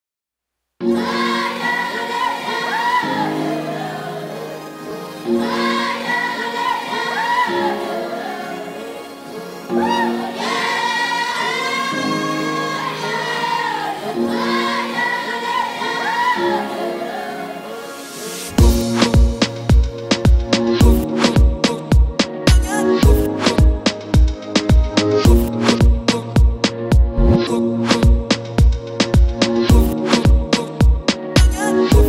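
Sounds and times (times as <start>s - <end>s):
slow sung song over held chords: 0.8s - 32.0s.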